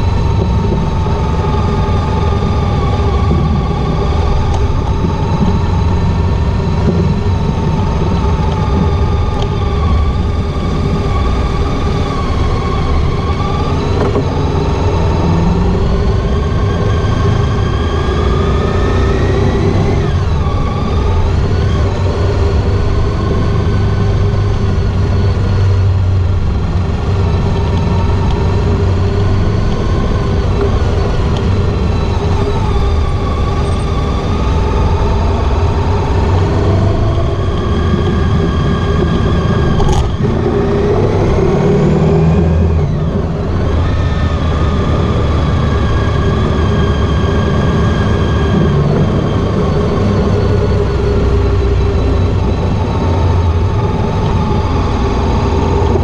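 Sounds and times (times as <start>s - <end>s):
motorcycle engine running: 0.0s - 56.0s
road and wind rumble: 0.0s - 56.0s.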